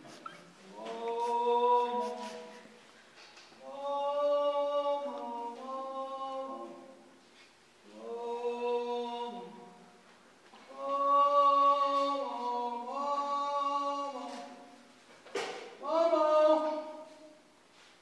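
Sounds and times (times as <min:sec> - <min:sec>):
voices singing held chords: 0:00.0 - 0:02.9, 0:03.5 - 0:07.2, 0:07.8 - 0:17.5.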